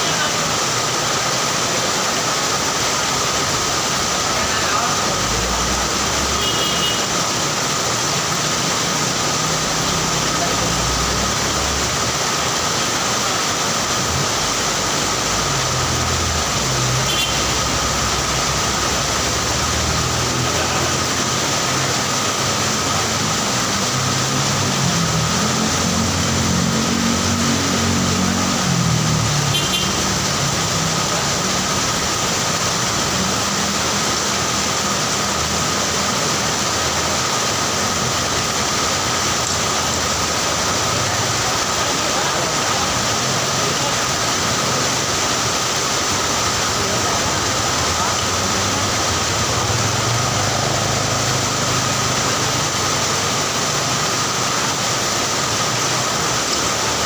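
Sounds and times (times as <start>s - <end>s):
heavy rain hissing: 0.0s - 57.0s
vehicle engines passing: 0.0s - 57.0s.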